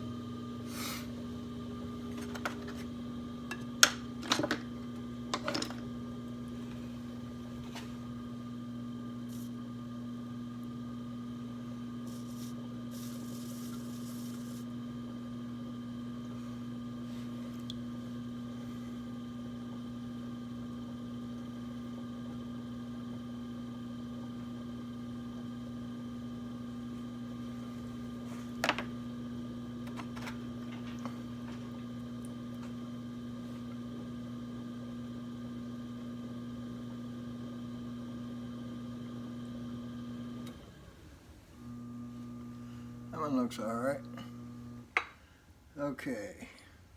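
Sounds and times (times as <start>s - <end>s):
potter's wheel motor humming: 0.0s - 45.2s.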